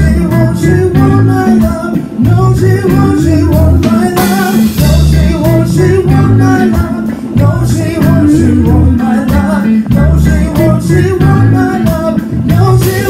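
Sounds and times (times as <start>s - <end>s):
drums: 0.0s - 13.0s
electric bass line: 0.0s - 13.0s
man singing into microphone: 0.0s - 13.0s.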